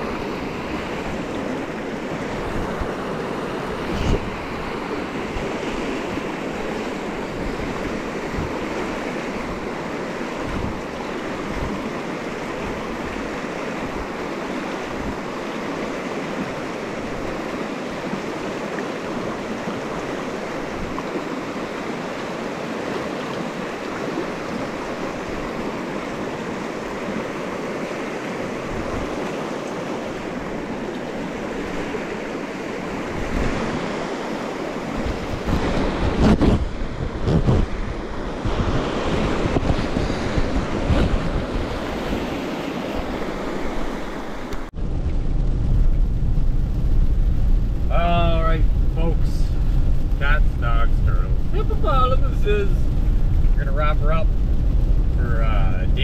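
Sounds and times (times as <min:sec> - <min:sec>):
river rushing over stones: 0:00.0 - 0:44.8, 0:45.6 - 0:56.0
wind rumbling on microphone: 0:00.0 - 0:56.0.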